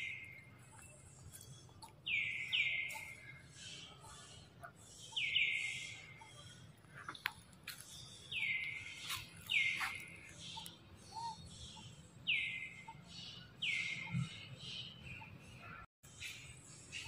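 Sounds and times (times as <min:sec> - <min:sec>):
bird calling: 0:00.0 - 0:15.9.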